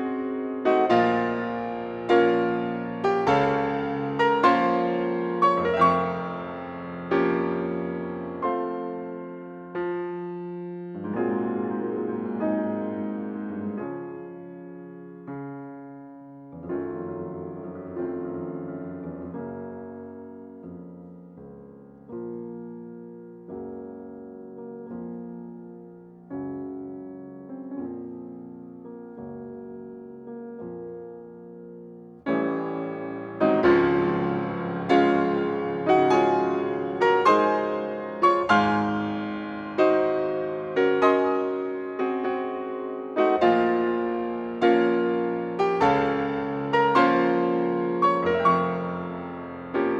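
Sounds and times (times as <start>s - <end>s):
slow piano chords: 0.0s - 49.9s.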